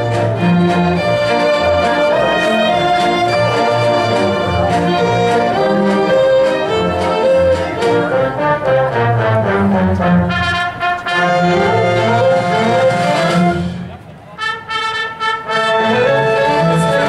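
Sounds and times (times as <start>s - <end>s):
brass: 0.0s - 17.0s
strings: 0.0s - 17.0s.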